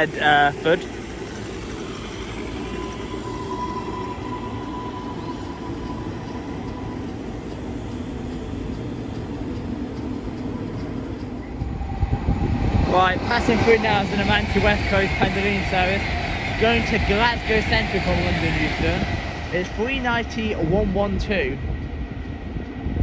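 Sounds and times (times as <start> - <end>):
thin high tone: 0.0 - 9.8, 11.3 - 21.6
train rumbling into platform: 0.0 - 23.0.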